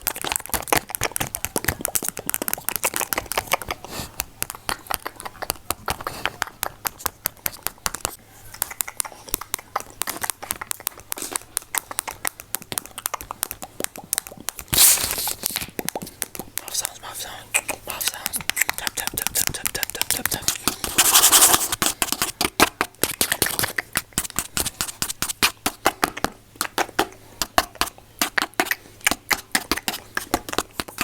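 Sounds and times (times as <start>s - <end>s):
clicking and crackling on microphone: 0.0s - 31.0s.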